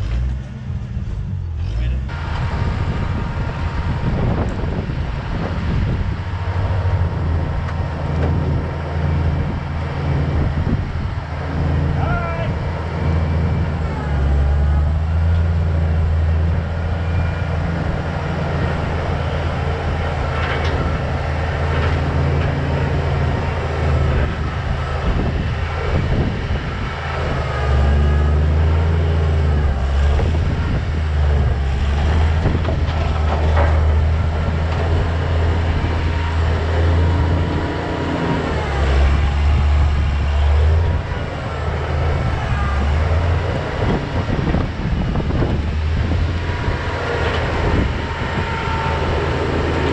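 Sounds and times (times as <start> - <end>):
heavy engine droning: 0.0 - 49.9.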